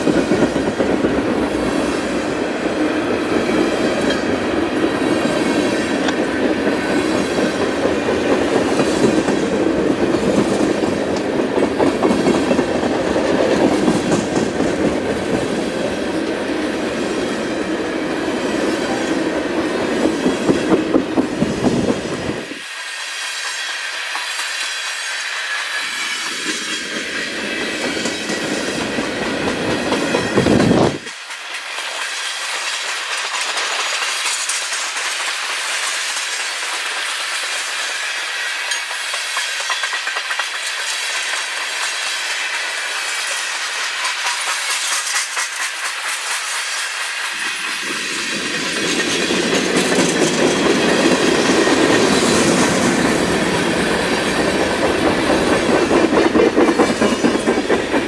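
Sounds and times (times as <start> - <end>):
wheels on rail: 0.0 - 58.0.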